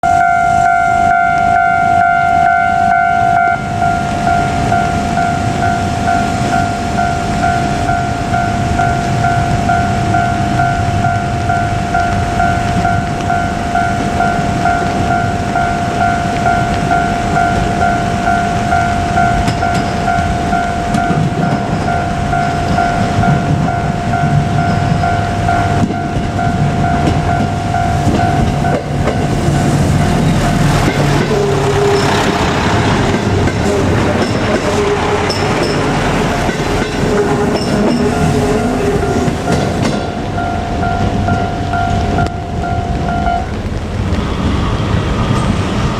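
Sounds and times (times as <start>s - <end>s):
level crossing bell dinging: 0.0s - 43.5s
diesel railcar rumble: 0.0s - 45.9s.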